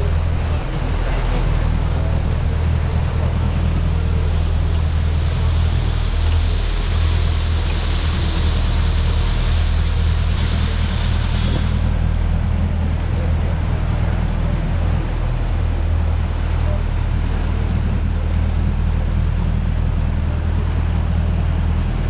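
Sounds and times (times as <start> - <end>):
boat engines running: 0.0 - 22.0
water rushing past hull: 0.0 - 22.0.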